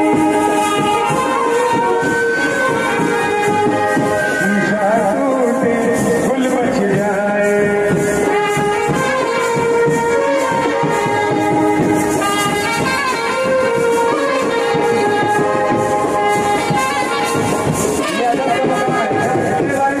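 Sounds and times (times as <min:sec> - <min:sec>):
brass band playing: 0:00.0 - 0:20.0
drum and cymbal beats: 0:00.0 - 0:20.0.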